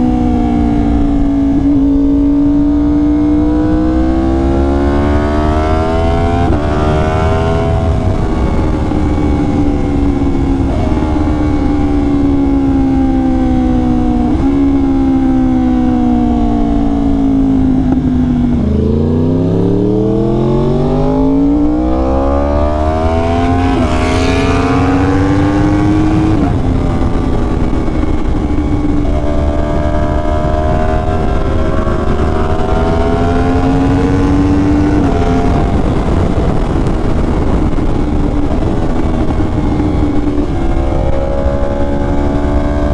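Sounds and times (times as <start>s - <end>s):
motorcycle engine revving: 0.0s - 42.9s
wind noise: 0.0s - 42.9s.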